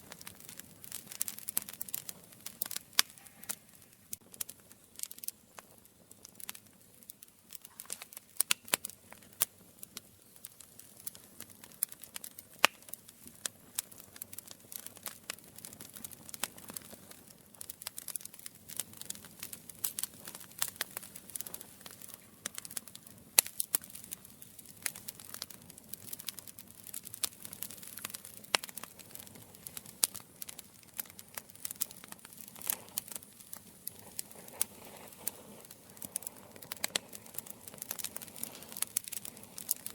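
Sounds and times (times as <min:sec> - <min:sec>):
campfire crackling and popping: 0:00.0 - 0:39.9
low rush of fire: 0:00.0 - 0:39.9.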